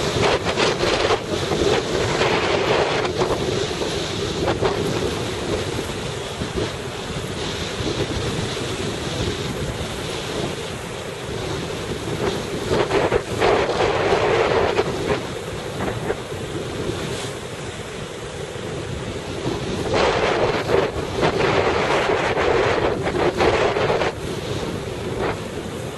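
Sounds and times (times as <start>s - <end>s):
sea and surf: 0.0s - 25.9s
wind buffeting microphone: 0.0s - 25.9s.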